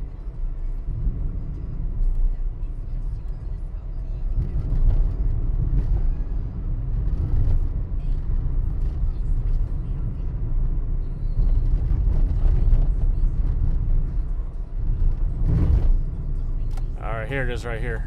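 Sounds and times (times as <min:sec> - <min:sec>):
car tyres and engine rumble: 0:00.0 - 0:18.0.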